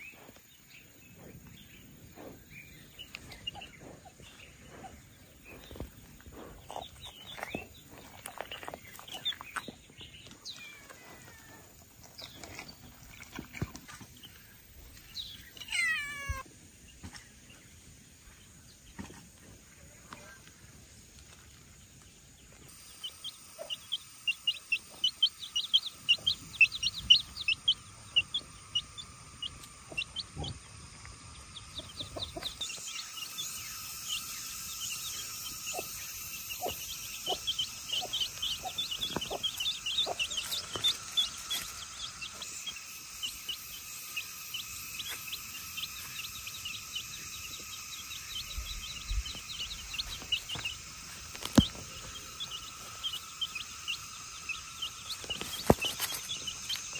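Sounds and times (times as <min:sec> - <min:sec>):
chicks peeping: 0:00.0 - 0:16.4, 0:21.2 - 0:56.9.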